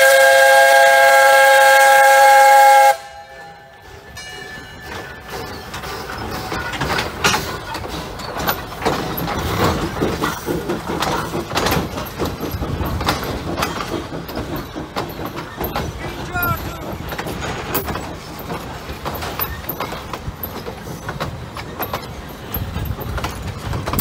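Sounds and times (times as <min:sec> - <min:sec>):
steam locomotive passing: 0:00.0 - 0:24.0
wheels clattering over track: 0:04.2 - 0:24.0.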